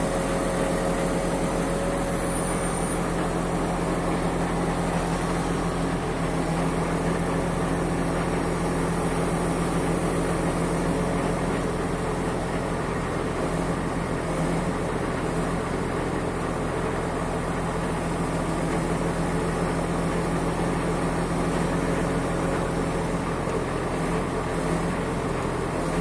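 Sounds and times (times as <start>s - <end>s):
truck engine and hydraulics droning: 0.0s - 26.0s.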